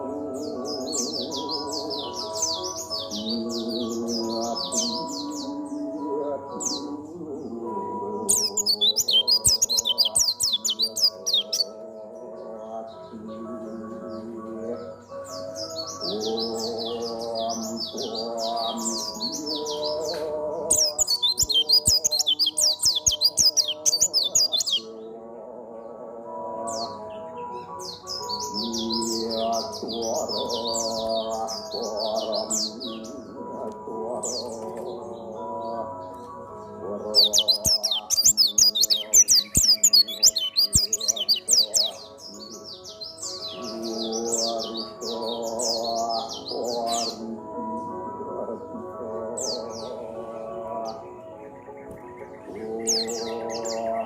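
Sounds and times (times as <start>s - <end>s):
bird twittering song: 0.0s - 25.0s, 26.6s - 33.3s, 34.1s - 47.3s, 49.2s - 54.0s
background music: 0.0s - 54.0s.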